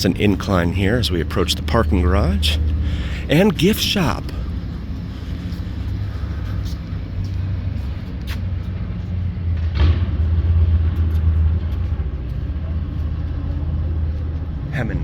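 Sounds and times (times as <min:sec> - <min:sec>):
road vehicle rumbling past: 0:00.0 - 0:15.0.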